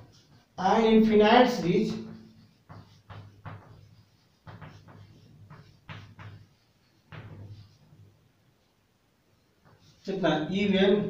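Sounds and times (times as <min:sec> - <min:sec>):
chalk writing on blackboard: 0:00.0 - 0:08.8, 0:09.4 - 0:10.2.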